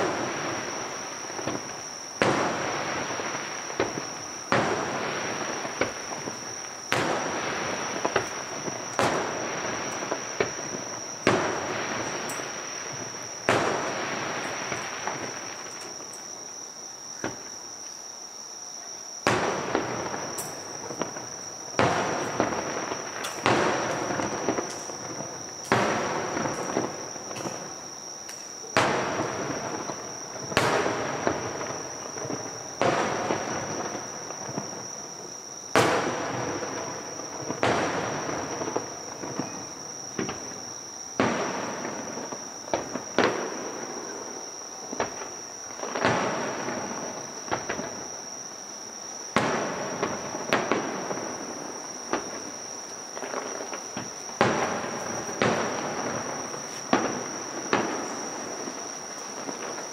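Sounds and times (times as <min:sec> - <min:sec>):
fireworks booming with rolling echo: 0:00.0 - 0:17.8, 0:19.2 - 0:59.9.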